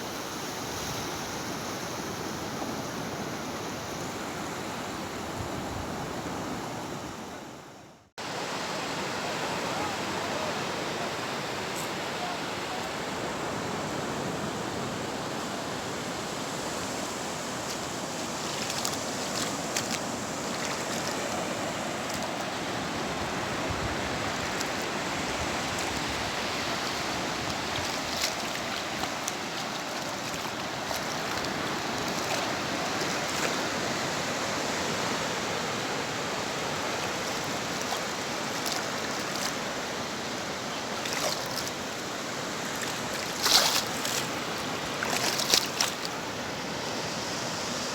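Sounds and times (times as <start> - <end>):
surf washing onto beach: 8.2 - 47.9.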